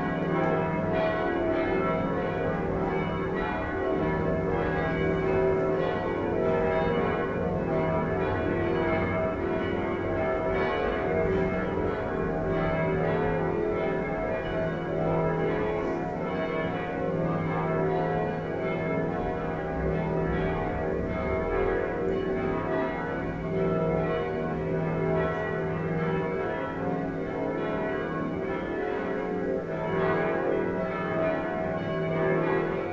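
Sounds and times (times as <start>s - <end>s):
church bells pealing: 0.0s - 32.9s.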